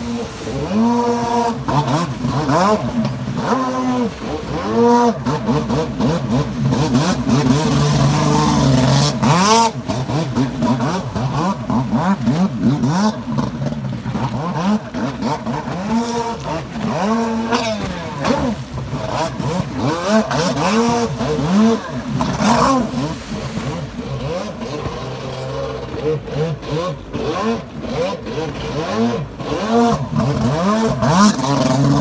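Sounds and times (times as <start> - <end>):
jet ski engine revving: 0.0 - 32.0.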